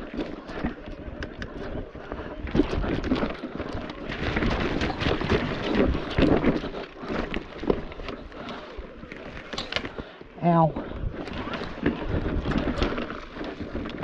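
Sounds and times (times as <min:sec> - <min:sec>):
mountain bike rattling: 0:00.0 - 0:14.0
wind buffeting microphone: 0:00.0 - 0:14.0.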